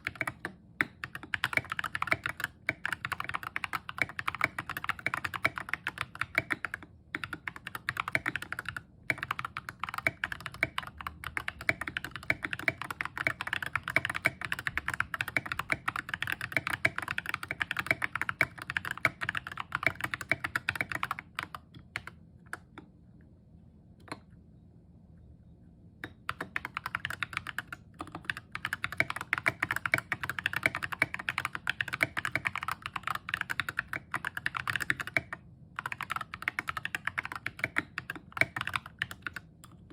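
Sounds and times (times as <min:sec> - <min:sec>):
mechanical keyboard typing: 0:00.0 - 0:22.9, 0:26.0 - 0:39.9.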